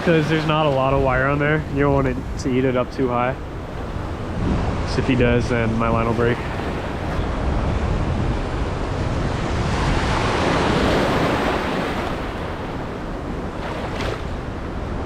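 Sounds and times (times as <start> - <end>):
surf washing in: 0.0 - 15.0
wind rumbling on microphone: 0.0 - 15.0.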